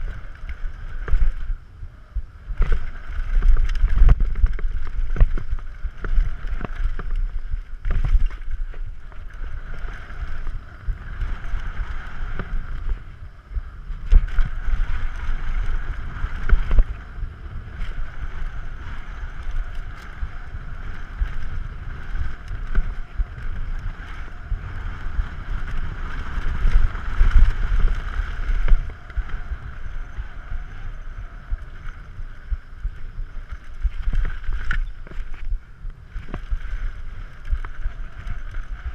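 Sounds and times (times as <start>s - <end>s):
tyre and trail rumble: 0.0s - 38.9s
wind buffeting microphone: 0.0s - 38.9s.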